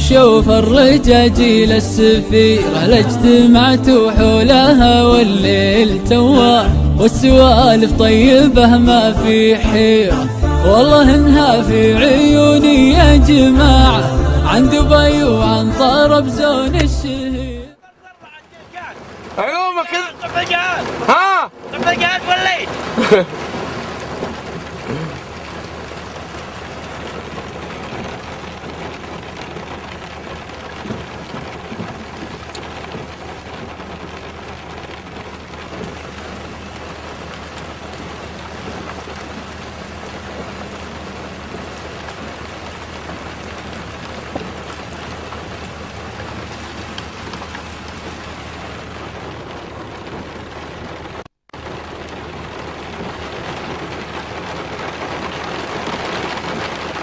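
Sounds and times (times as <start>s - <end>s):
engine hum: 0.0s - 17.8s, 22.7s - 57.0s
rain pattering on vehicle: 0.0s - 57.0s
road noise: 0.0s - 57.0s.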